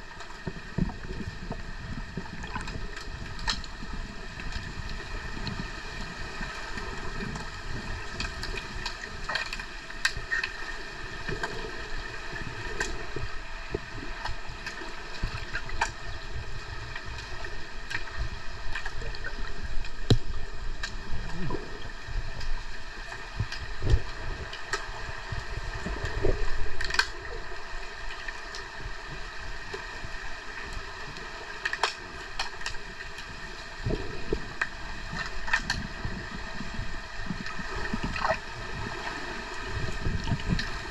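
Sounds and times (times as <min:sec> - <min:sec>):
underwater hum: 0:00.0 - 0:40.9.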